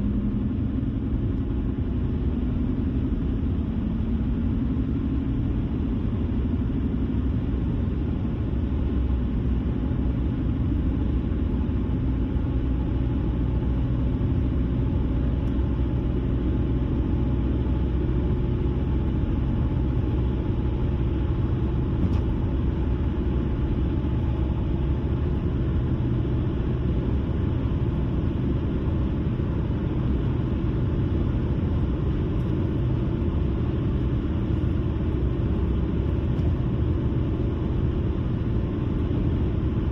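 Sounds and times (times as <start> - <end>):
tyres and engine rumble: 0.0 - 39.9.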